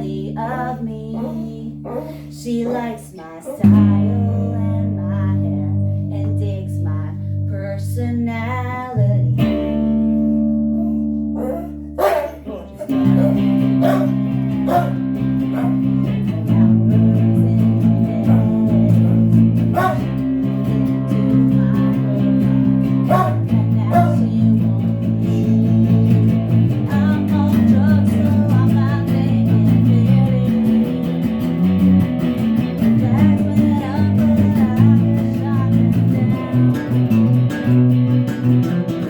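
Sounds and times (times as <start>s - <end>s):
guitars playing sustained chords: 0.0s - 39.0s.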